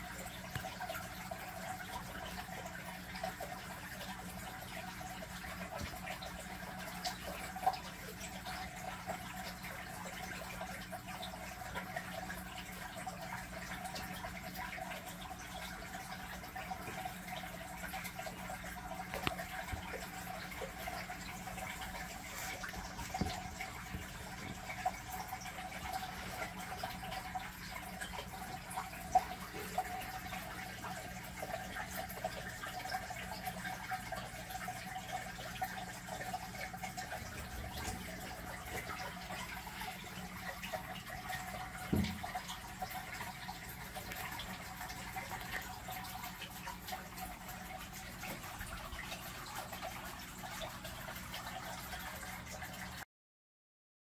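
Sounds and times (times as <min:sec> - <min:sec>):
pump hum: 0:00.0 - 0:53.0
trickle of moving water: 0:00.0 - 0:53.0.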